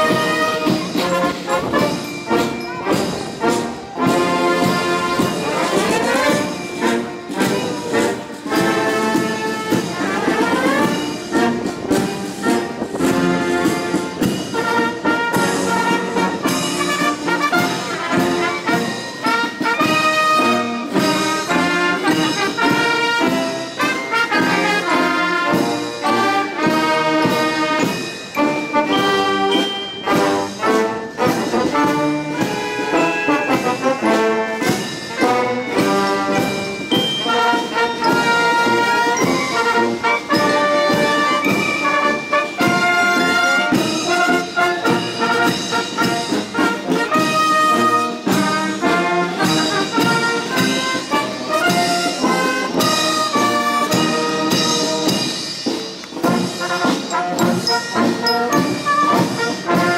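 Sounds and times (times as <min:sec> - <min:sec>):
brass band playing: 0:00.0 - 0:59.9.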